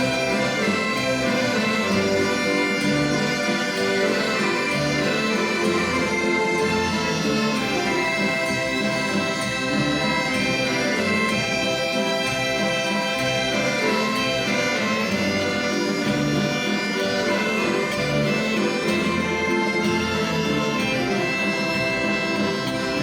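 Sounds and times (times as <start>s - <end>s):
folk instrumental waltz: 0.0s - 23.0s.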